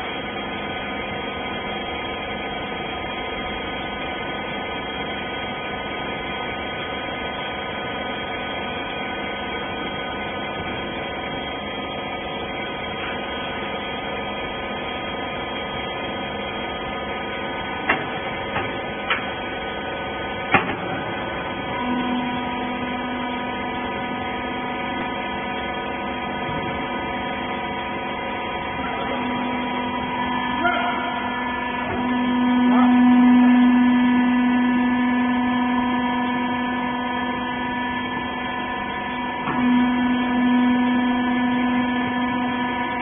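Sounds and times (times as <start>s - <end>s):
hydraulic pump motor humming: 0.0s - 43.0s.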